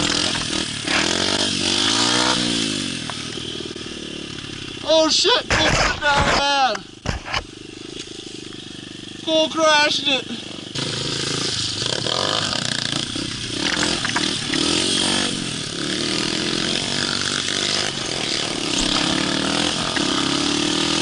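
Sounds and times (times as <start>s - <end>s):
motorbike engine revving: 0.0s - 21.0s.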